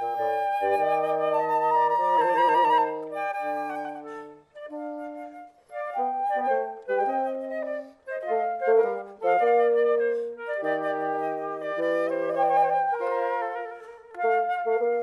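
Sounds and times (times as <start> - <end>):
flutes playing melody: 0.0 - 15.0.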